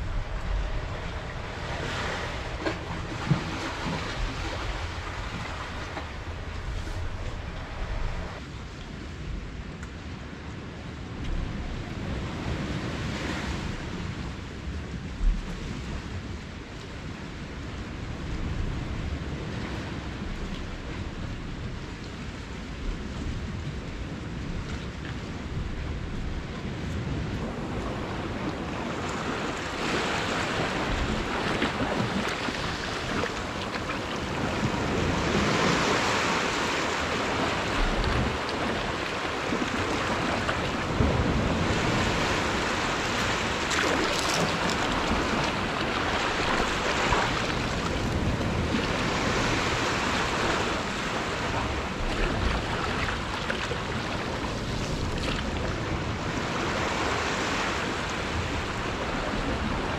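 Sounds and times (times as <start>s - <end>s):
sea waves washing ashore: 0.0s - 59.9s.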